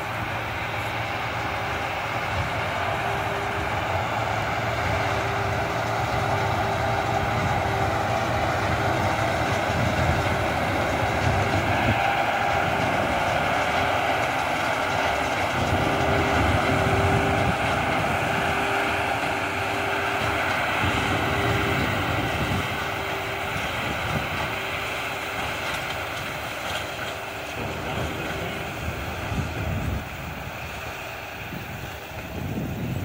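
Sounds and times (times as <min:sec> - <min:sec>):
pulsing baler hum: 0:00.0 - 0:33.0
tractor diesel engine drone: 0:00.0 - 0:33.0.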